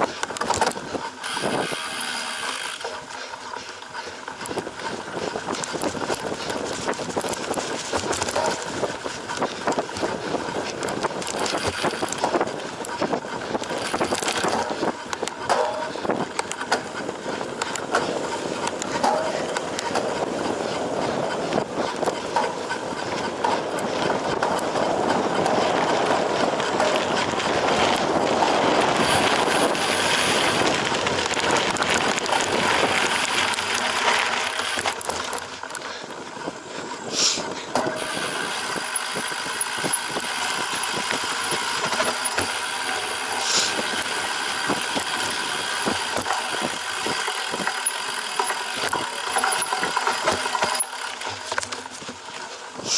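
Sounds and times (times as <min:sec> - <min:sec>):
bike rattling clicks and knocks: 0:00.0 - 0:52.9
bike tyre noise on rough ground: 0:00.0 - 0:52.9.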